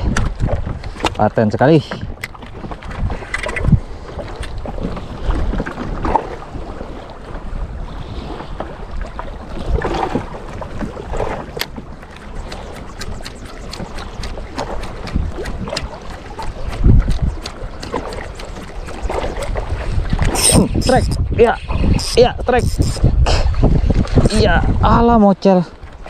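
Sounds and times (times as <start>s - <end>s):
water slapping boat hull: 0.0s - 26.0s
wind buffeting microphone: 0.0s - 26.0s.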